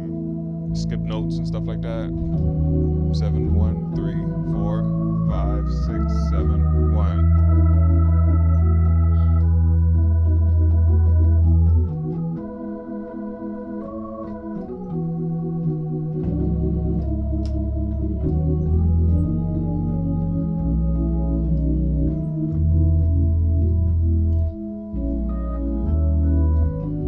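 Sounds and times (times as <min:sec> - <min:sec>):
organ bass note: 0:00.0 - 0:27.0
organ chords: 0:00.0 - 0:27.0.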